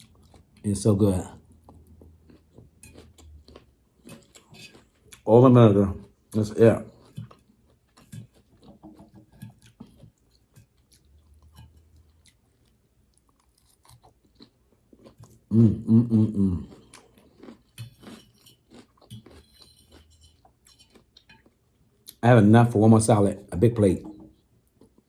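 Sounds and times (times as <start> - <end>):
crisp wet chewing: 0.0 - 5.3, 5.9 - 15.5, 16.4 - 22.2, 24.3 - 25.0.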